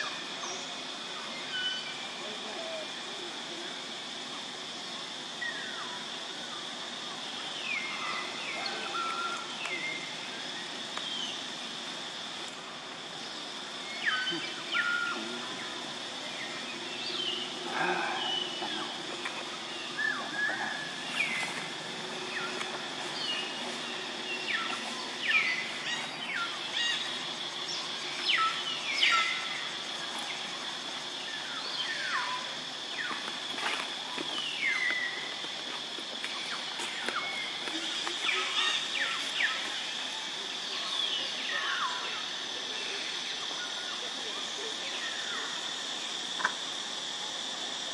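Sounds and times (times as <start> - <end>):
steady high-pitched drone: 0.0 - 45.8.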